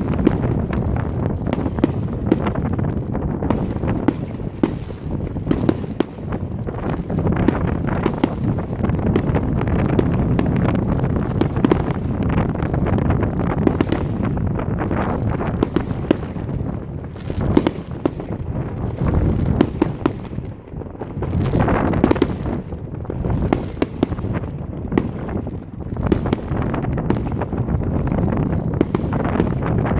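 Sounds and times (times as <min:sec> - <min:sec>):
continuous low rumble: 0:00.0 - 0:29.9
fireworks bangs and crackling: 0:00.0 - 0:29.9.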